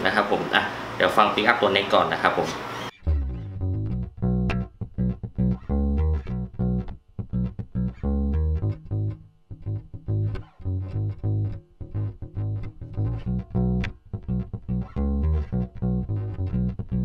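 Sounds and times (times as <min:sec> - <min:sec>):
electric bass plucked notes: 0:02.9 - 0:17.0.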